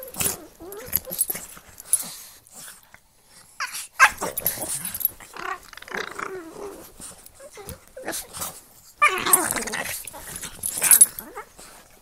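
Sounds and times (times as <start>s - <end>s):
dogs growling: 0.0s - 2.9s, 3.6s - 12.0s.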